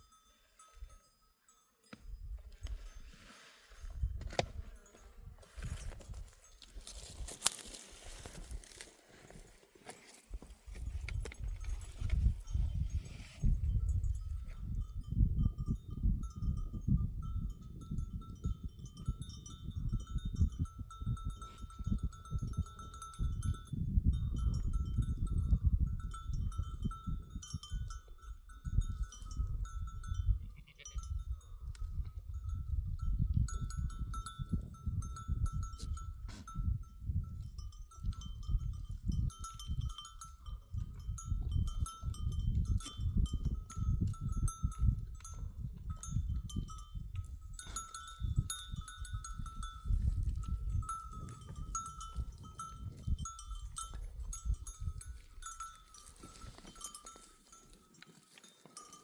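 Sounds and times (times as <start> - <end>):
animal bells ringing: 0.0 - 8.8, 10.7 - 59.0.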